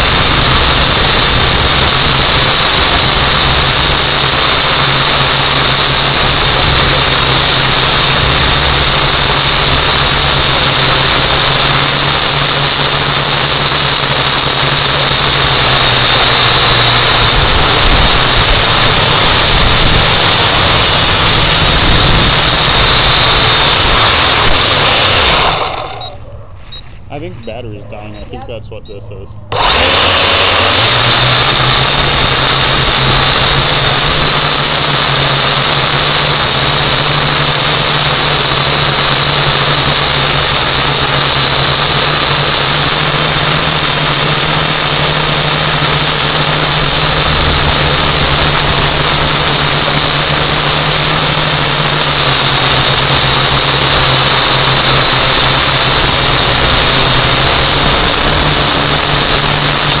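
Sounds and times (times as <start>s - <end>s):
drone propellers whining: 0.0s - 60.0s.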